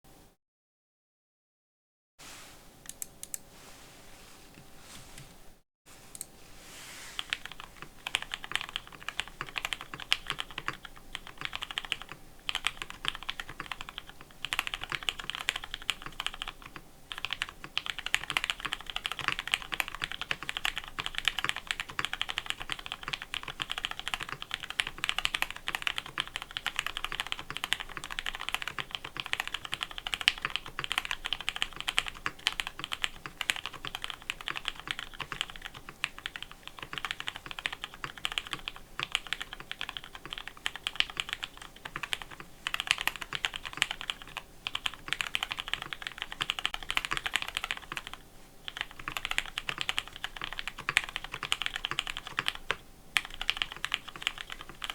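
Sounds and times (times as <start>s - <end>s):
typing on mechanical keyboard: 7.2s - 54.9s.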